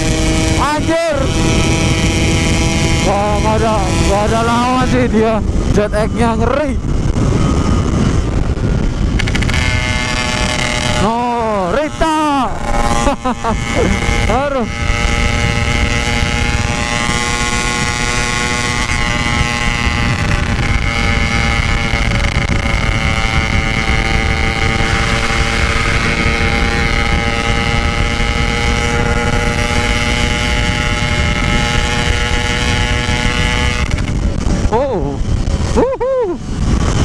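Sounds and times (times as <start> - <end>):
two-stroke motorcycle engine running: 0.0 - 37.0
wind rumble on microphone: 0.0 - 37.0.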